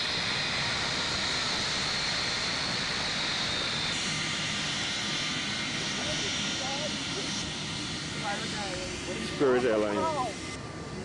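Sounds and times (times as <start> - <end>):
jet engine whine: 0.0 - 11.0.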